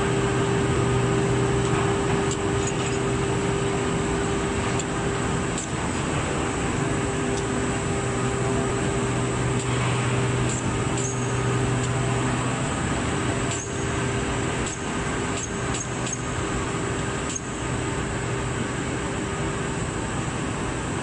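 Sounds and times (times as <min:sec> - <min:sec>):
machine hum and rushing: 0:00.0 - 0:21.0.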